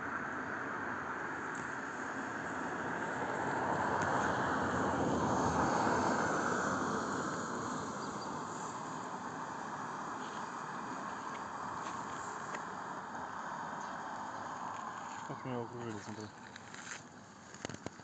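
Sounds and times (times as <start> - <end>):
vehicle passing: 0.6 - 17.0.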